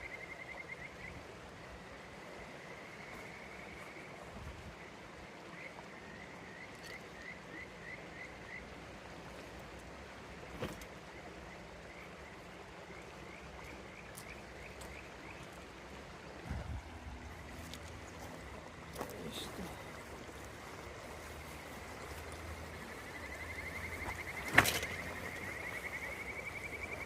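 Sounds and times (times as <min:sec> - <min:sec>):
river running: 0:00.0 - 0:27.0.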